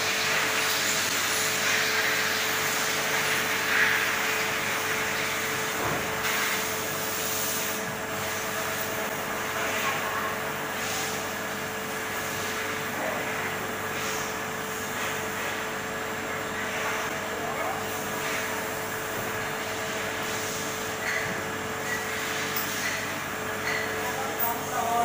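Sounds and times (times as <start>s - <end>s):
machine drone with hum: 0.0s - 25.0s.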